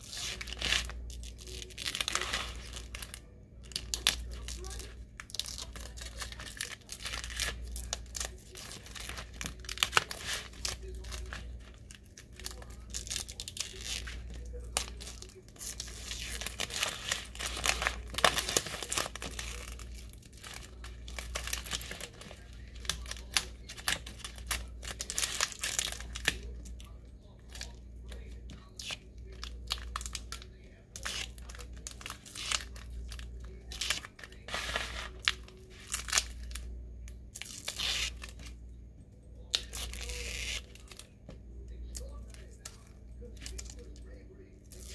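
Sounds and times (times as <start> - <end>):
vinyl peeling and crumpling: 0.0 - 38.6, 39.4 - 44.9.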